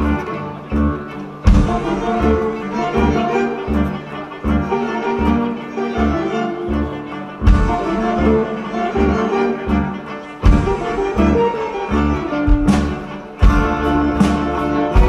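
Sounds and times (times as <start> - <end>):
string orchestra music: 0.0 - 15.0.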